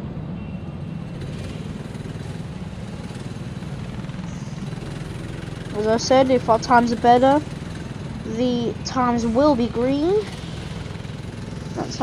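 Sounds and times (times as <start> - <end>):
go-kart engine running: 0.6 - 12.0.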